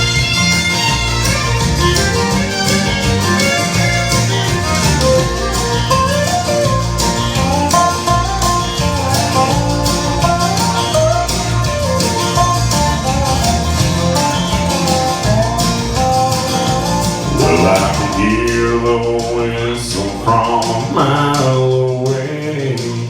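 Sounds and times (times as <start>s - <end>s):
fiddle: 0.0s - 18.7s
guitar: 0.0s - 23.0s
steady drum beat: 0.0s - 23.0s.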